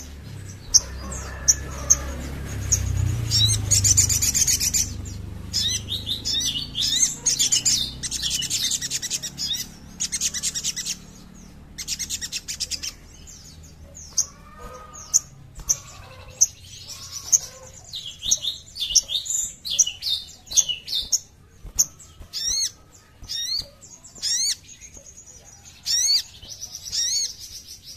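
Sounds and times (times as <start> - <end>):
bird chirping and twittering: 0.0 - 27.9.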